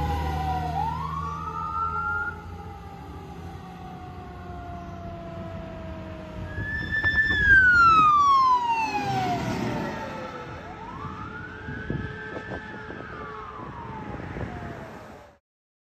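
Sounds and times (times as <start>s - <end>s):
engine and road rumble: 0.0s - 15.4s
fire engine siren wailing: 0.0s - 15.4s.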